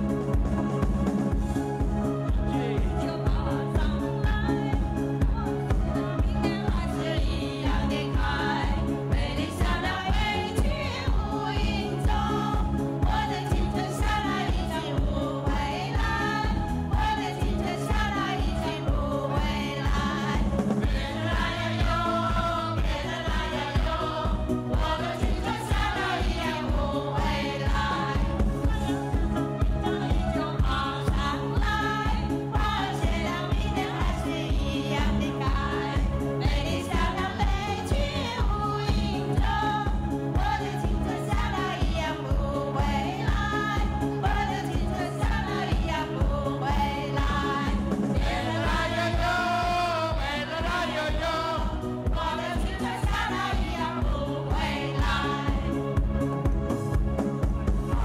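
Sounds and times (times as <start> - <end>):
amplified backing music with beat: 0.0 - 58.0
group singing into microphones: 1.6 - 56.6, 57.8 - 58.0.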